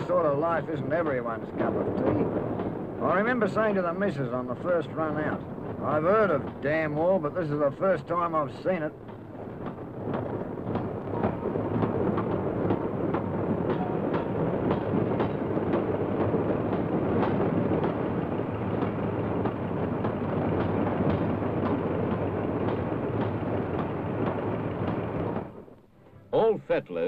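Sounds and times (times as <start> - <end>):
wheels clattering over rail joints: 0.0 - 25.8
train rumbling on rails: 0.0 - 27.0.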